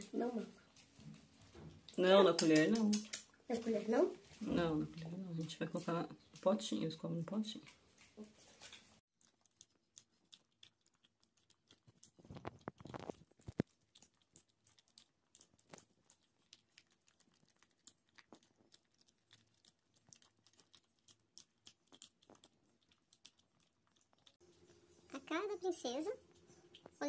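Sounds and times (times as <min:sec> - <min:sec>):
puppies chewing and smacking: 0:00.0 - 0:06.5, 0:07.2 - 0:27.0.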